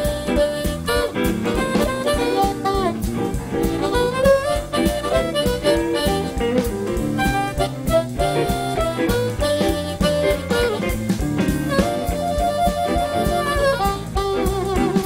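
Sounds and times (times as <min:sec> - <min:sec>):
amplified harmonica: 0:00.0 - 0:15.0
drums steady beat: 0:00.0 - 0:15.0
live blues band: 0:00.0 - 0:15.0.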